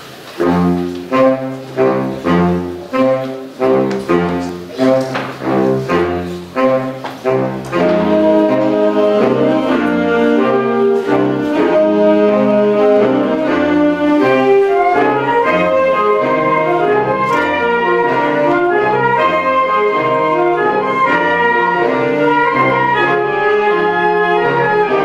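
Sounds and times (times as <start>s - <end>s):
wind band playing loud music: 0.1s - 25.0s.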